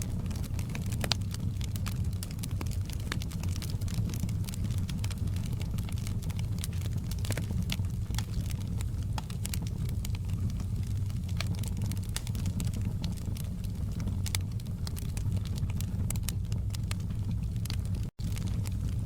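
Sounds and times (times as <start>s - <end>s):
fireplace crackling: 0.0s - 19.0s
low rumble of burning logs: 0.0s - 19.0s.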